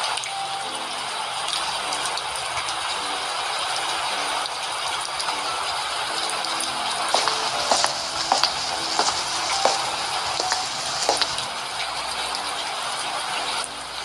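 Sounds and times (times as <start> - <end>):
heavy rain hiss: 0.8 - 14.0.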